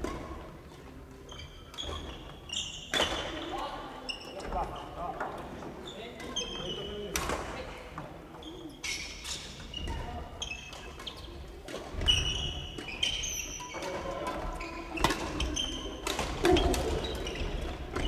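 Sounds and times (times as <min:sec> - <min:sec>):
shoes squeaking on wooden floor: 0:01.2 - 0:07.1, 0:08.3 - 0:18.0.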